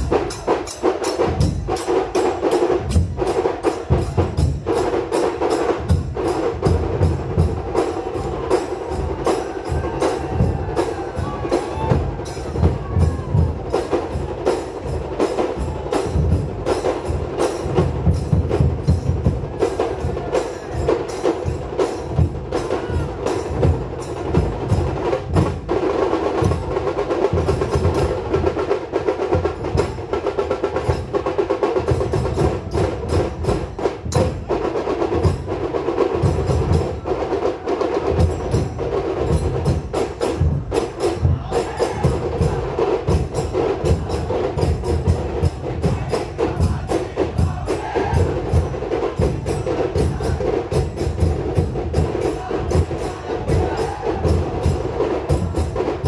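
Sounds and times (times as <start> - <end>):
deep drum beats: 0.0 - 37.3, 38.0 - 56.0
drums beaten with sticks: 0.0 - 56.0.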